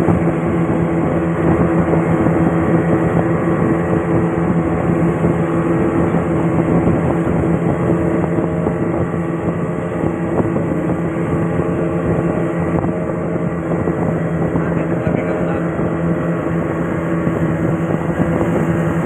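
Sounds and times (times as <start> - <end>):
boat engine drone: 0.0 - 19.0
water noise: 0.0 - 19.0
wind: 0.0 - 19.0.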